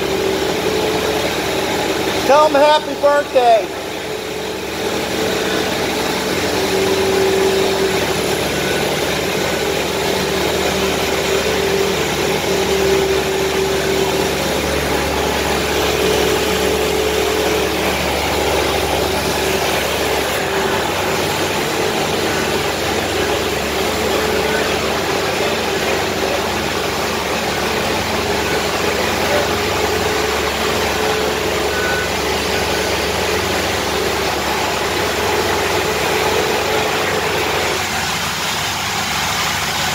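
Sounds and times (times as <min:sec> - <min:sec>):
construction machinery engine running: 0:00.0 - 0:39.9.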